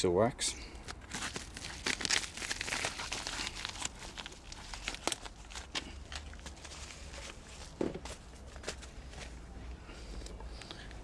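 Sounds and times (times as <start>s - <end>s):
rustling and crinkling packaging: 0.8s - 11.0s.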